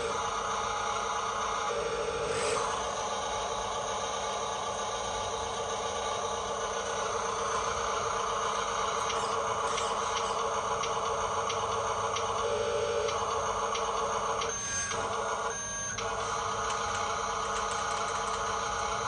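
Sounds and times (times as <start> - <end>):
toy truck motor whirring: 0.0 - 19.0.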